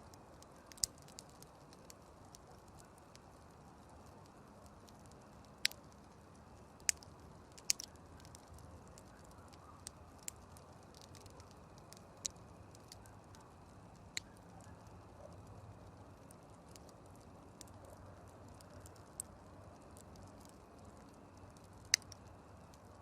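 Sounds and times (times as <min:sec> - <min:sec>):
campfire burning and crackling: 0:00.0 - 0:23.0.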